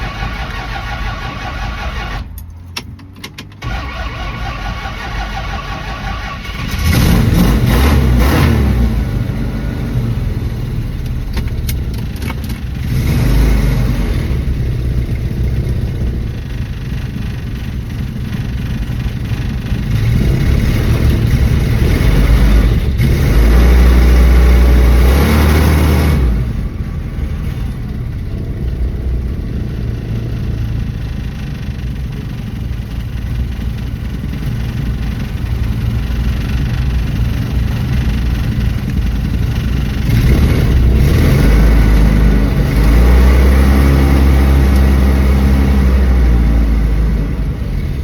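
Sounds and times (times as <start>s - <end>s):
car engine revving and idling: 0.0s - 48.0s.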